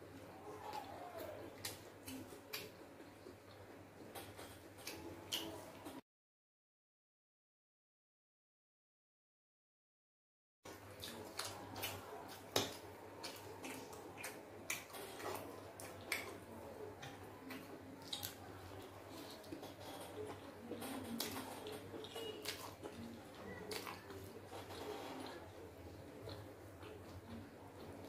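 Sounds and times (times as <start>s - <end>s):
wet chewing: 0.0s - 6.0s, 10.7s - 28.0s.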